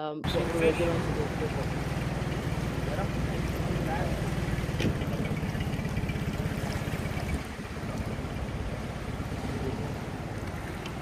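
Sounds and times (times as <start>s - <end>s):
outboard motor running: 0.2s - 11.0s.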